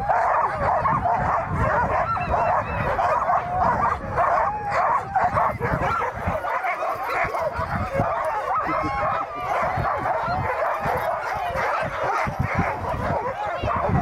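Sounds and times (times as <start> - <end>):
sled dogs yipping and barking: 0.0 - 14.0.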